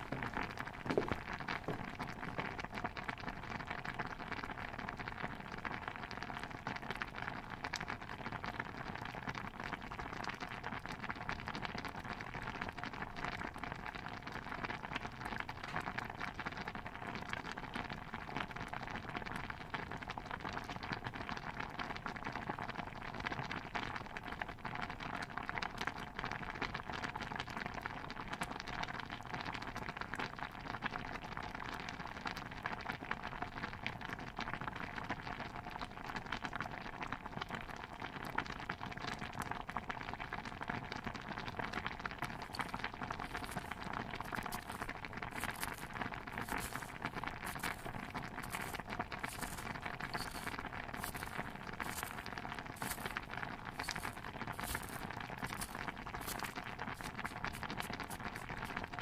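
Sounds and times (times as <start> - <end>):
stew bubbling in a pot: 0.0 - 59.0.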